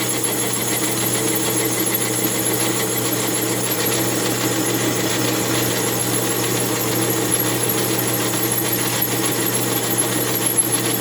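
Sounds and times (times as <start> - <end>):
metal lathe humming and whining: 0.0 - 11.0.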